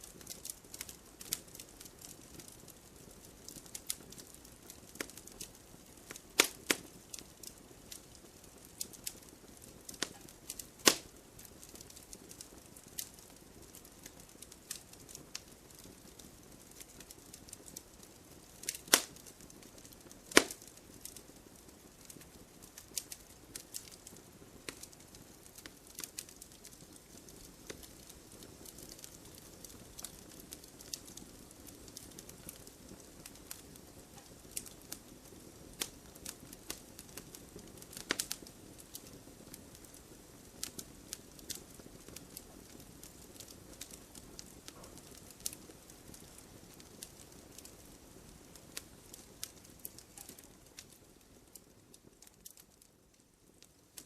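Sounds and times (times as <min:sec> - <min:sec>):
soft steady hiss: 0:00.0 - 0:54.0
wood fire crackling and popping: 0:00.0 - 0:54.0.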